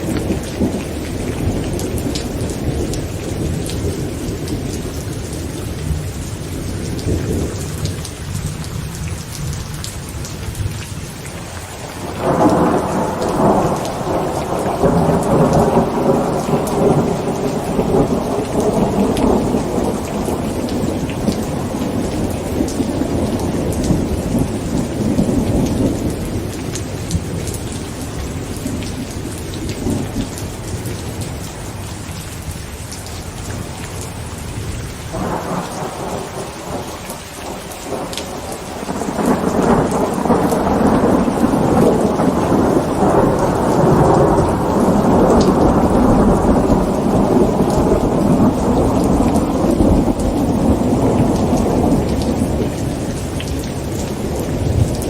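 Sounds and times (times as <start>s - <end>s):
rolling thunder: 0.0s - 8.6s, 12.0s - 31.8s, 33.5s - 55.0s
heavy rain on a tent: 0.0s - 55.0s.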